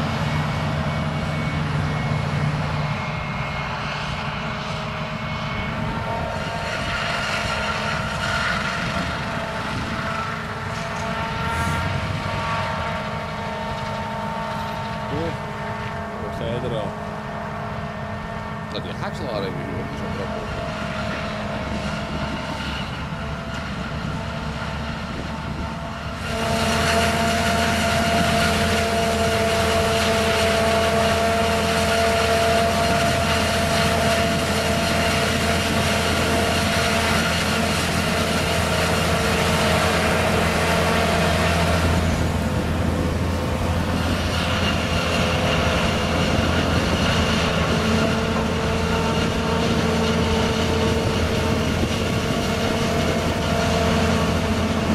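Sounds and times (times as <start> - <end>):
harvester machine drone: 0.0 - 54.9
high machine whine: 0.0 - 54.9.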